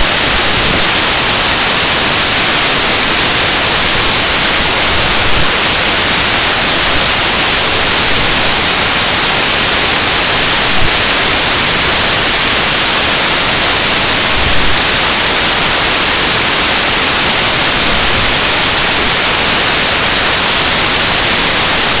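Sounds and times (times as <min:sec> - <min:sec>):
white noise static hiss: 0:00.0 - 0:22.0.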